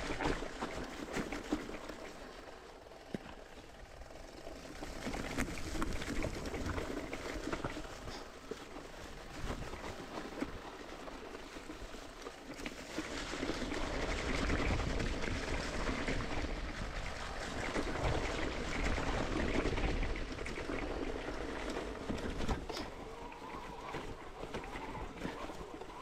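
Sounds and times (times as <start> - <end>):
bike tyres rolling on dirt: 0.0 - 26.0
wind rumble on microphone: 4.1 - 26.0.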